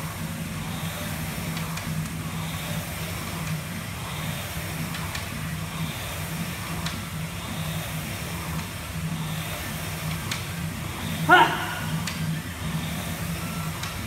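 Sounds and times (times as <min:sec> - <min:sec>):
rowing machine fan whirring: 0:00.0 - 0:14.0.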